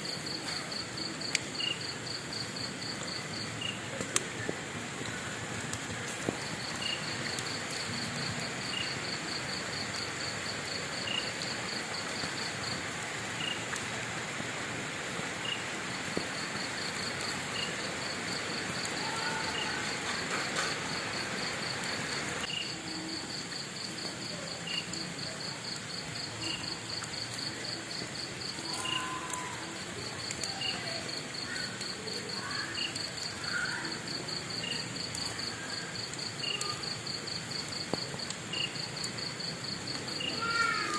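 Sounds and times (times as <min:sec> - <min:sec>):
crickets trilling: 0:00.0 - 0:40.9
fire crackling: 0:00.0 - 0:40.9.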